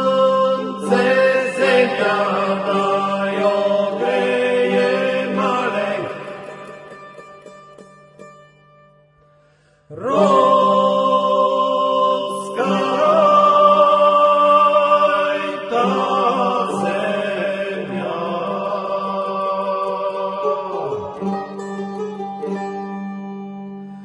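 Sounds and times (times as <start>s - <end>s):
chanted singing: 0.0s - 7.2s, 9.9s - 22.1s.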